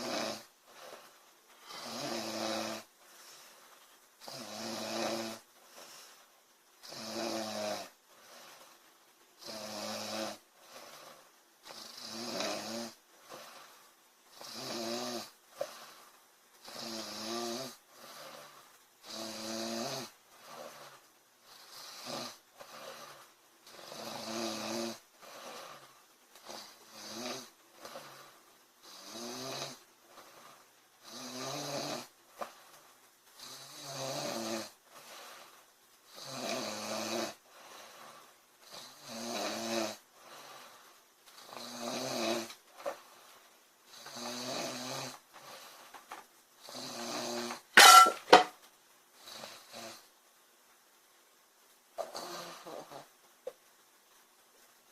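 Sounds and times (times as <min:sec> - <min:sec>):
woman snoring: 0:00.0 - 0:03.4, 0:04.2 - 0:06.1, 0:06.8 - 0:08.8, 0:09.4 - 0:32.6, 0:33.4 - 0:43.0, 0:43.9 - 0:46.0, 0:46.6 - 0:48.5, 0:49.2 - 0:50.1, 0:52.0 - 0:53.1.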